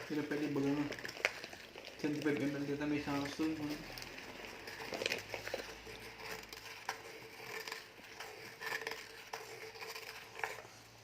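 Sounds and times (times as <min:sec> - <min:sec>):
plastic measuring cups clicking: 0:00.0 - 0:10.6.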